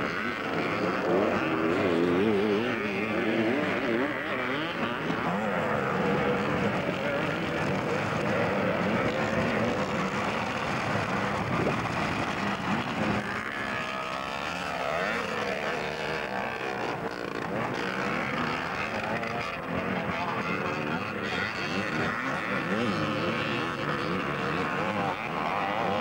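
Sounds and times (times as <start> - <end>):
motocross bikes revving: 0.0 - 26.0.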